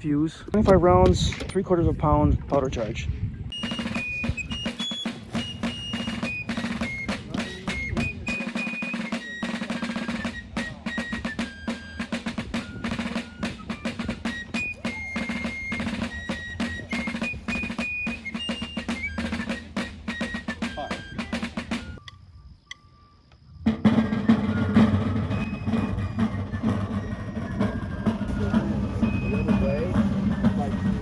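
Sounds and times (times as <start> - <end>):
rapid snare drumming: 3.5 - 22.0, 23.7 - 31.0
fife melody: 3.5 - 23.0, 23.7 - 31.0.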